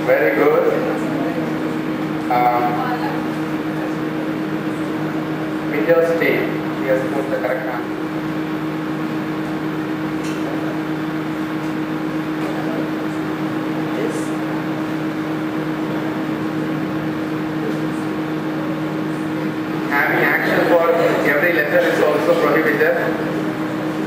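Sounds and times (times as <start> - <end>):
murmur of voices: 0.0 - 8.4, 10.1 - 24.0
steady electrical hum: 0.0 - 24.0.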